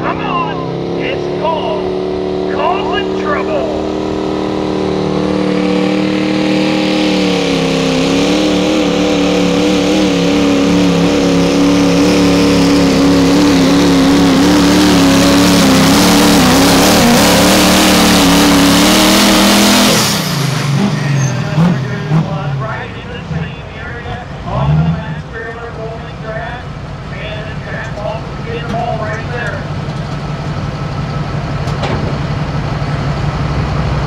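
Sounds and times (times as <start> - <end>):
truck engine at high revs: 0.0 - 34.0.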